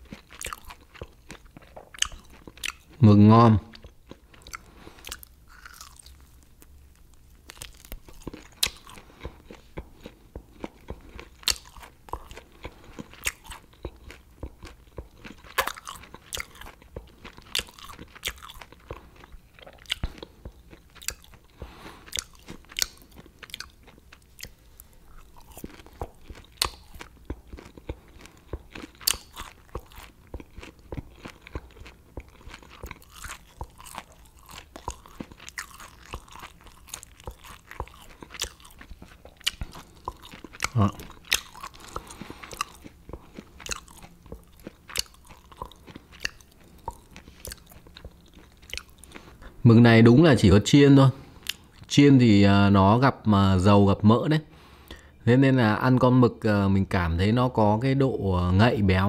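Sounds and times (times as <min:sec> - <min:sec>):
crisp chewing crunches: 0:00.0 - 0:03.0, 0:03.7 - 0:49.6.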